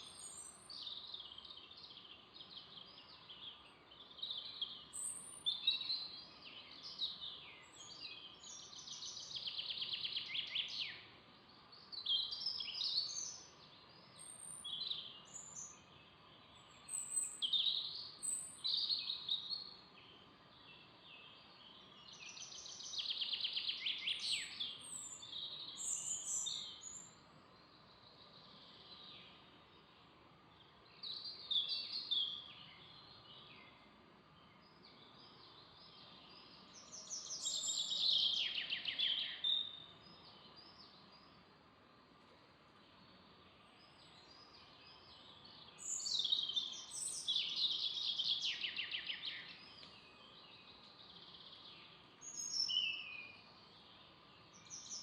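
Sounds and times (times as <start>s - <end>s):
songbirds trilling: 0.0s - 41.5s, 42.8s - 55.0s
faint steady hiss: 0.0s - 55.0s.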